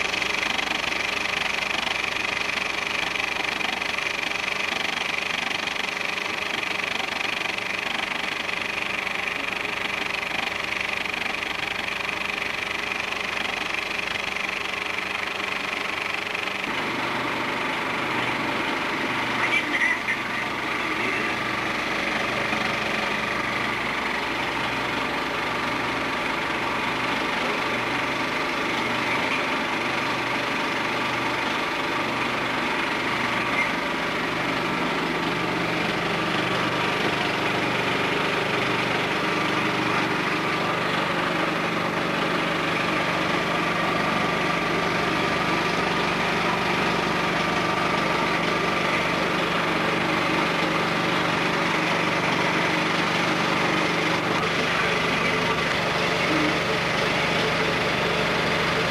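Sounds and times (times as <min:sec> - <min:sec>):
film projector humming: 0:00.0 - 0:58.9.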